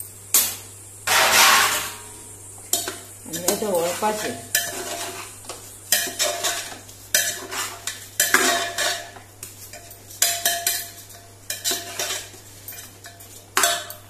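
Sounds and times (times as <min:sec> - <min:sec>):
spoon scraping a pot: 0:02.7 - 0:14.0.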